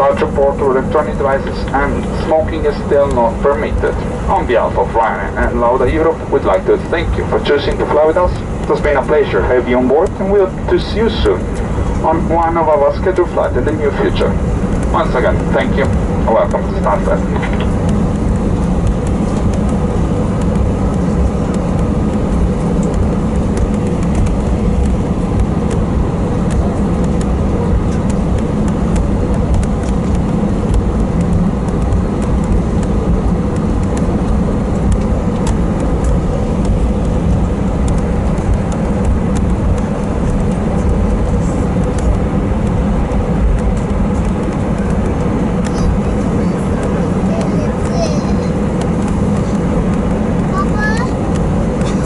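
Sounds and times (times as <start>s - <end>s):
jet engines idling hum: 0.0s - 52.0s
rolling gear rumble: 0.0s - 52.0s.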